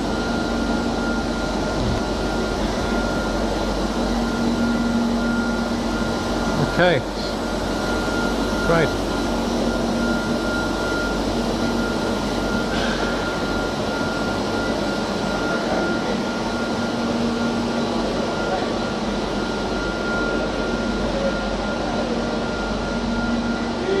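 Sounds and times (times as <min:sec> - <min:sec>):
dense printing machine noise: 0:00.0 - 0:24.0
high whine: 0:00.0 - 0:24.0.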